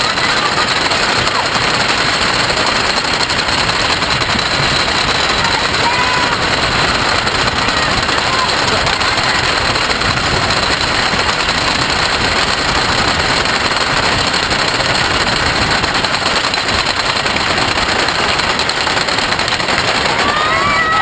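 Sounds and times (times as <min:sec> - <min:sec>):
roller coaster chain lift clatter: 0:00.0 - 0:21.0.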